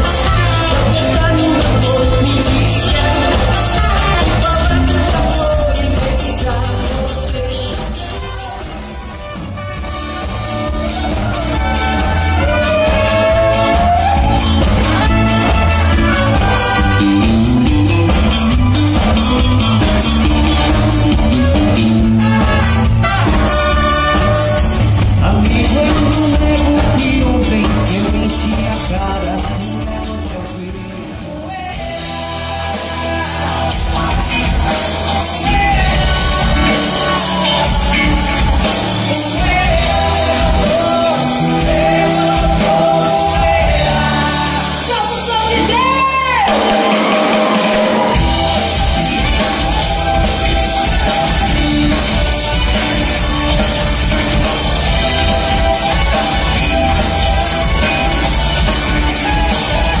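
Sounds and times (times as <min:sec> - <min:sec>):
person singing: 0:00.0 - 0:09.6, 0:10.8 - 0:18.1, 0:19.2 - 1:00.0
band playing a song: 0:00.0 - 1:00.0
drums: 0:00.0 - 1:00.0.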